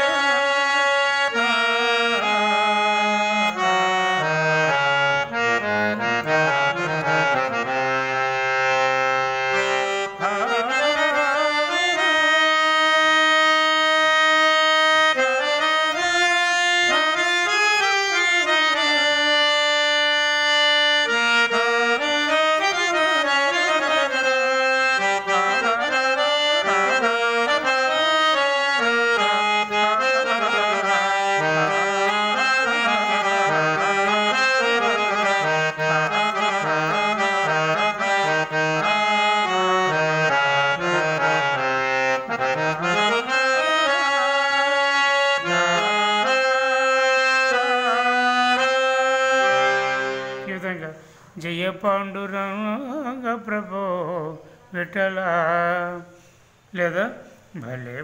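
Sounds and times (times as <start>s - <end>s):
harmonium melody: 0.0s - 57.0s.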